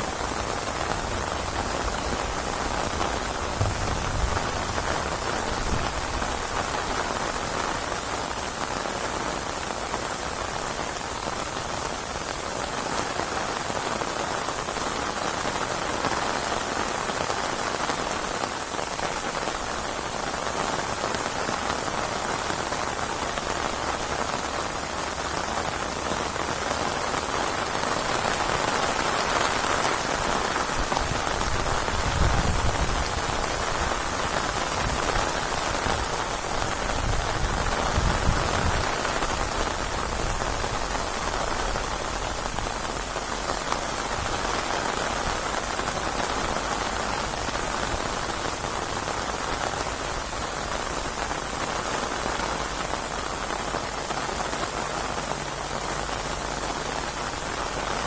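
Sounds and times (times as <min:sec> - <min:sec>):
dense rain on hard surface: 0:00.0 - 0:58.0.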